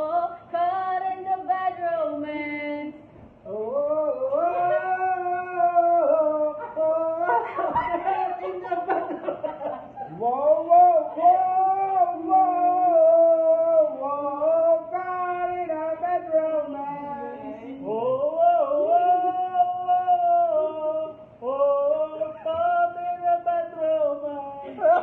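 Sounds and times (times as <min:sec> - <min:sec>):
person singing slow melody: 0:00.0 - 0:07.8, 0:10.0 - 0:25.0.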